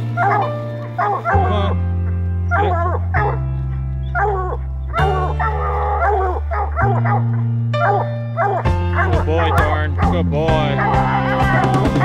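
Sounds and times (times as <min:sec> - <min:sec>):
hounds barking: 0:00.0 - 0:01.8, 0:02.5 - 0:12.0
music with low bass notes: 0:00.0 - 0:12.0.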